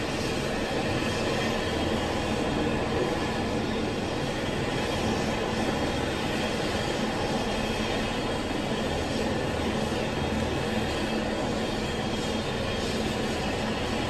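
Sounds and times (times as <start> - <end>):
helicopter turbine and rotor running: 0.0 - 14.0.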